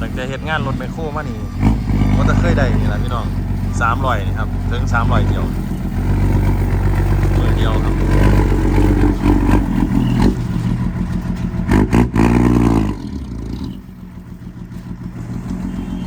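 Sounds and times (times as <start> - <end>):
truck engine revving and idling: 0.0 - 16.0.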